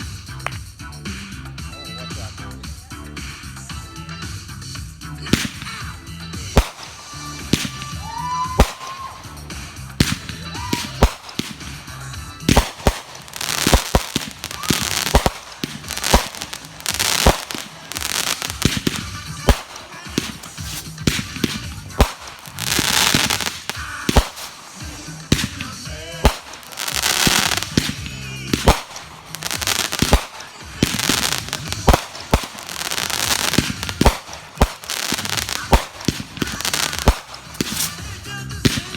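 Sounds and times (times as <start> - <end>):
fireworks crackling hiss: 0.0 - 38.9
firework bangs: 5.2 - 38.9.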